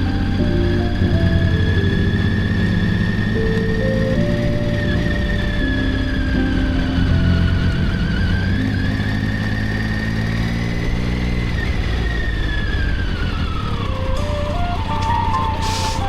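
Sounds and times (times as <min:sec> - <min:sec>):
motorcycle engine at road speed: 0:00.0 - 0:15.6.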